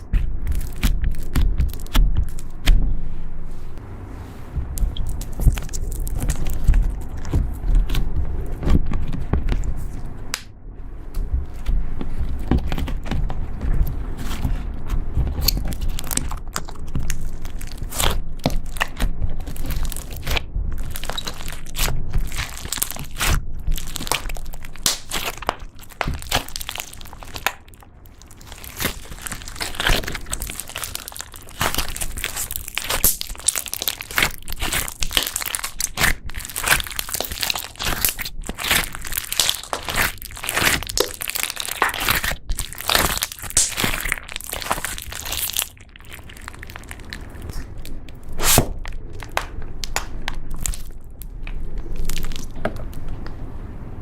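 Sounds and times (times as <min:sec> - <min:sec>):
slime crackling and popping: 0:00.0 - 0:03.0, 0:04.7 - 0:10.5, 0:11.2 - 0:53.3.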